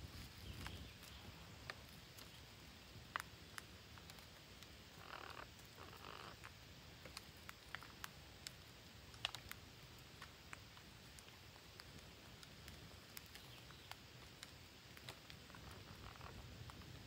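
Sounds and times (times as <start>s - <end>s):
leaves rustling: 0.0s - 17.0s
parrots nibbling leaves: 0.0s - 17.0s.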